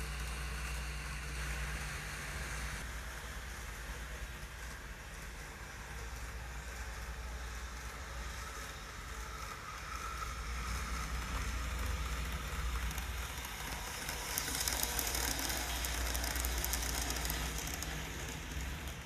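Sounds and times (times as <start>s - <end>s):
model train motor hum: 0.0s - 19.0s
wheels ticking over rail joints: 0.0s - 19.0s.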